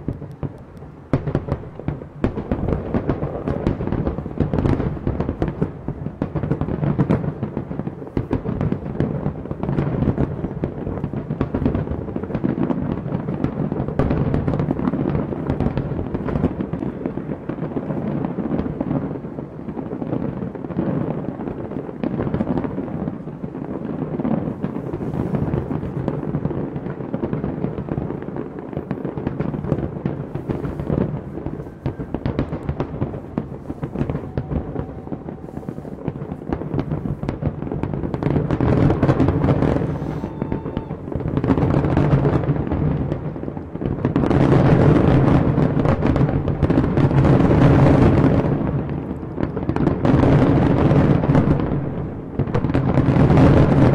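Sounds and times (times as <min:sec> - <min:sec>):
fireworks booms: 0:00.0 - 0:53.9
fireworks crackling: 0:00.0 - 0:53.9.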